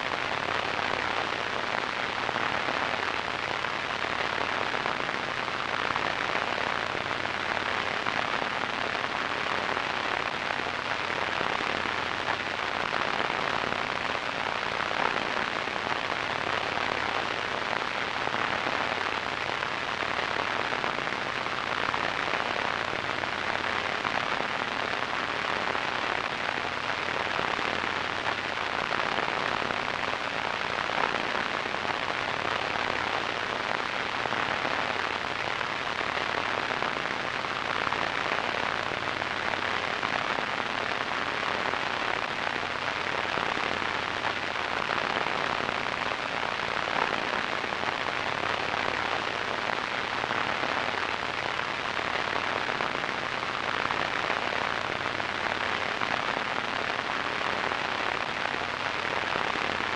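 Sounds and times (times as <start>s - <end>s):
radio static hiss and crackle: 0.0s - 59.9s.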